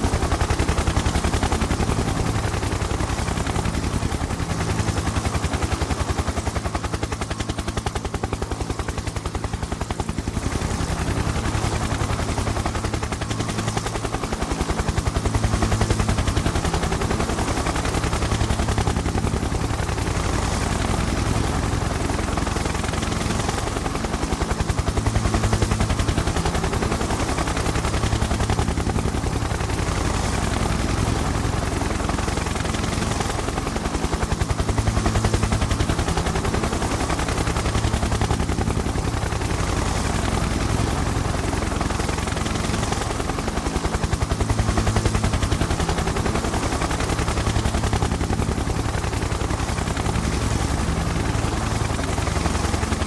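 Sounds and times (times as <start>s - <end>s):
helicopter rotor chopping: 0.0s - 53.0s.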